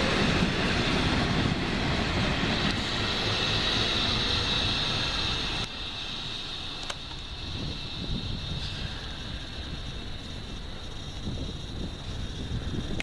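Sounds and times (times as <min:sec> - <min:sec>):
train rolling past: 0:00.0 - 0:13.0.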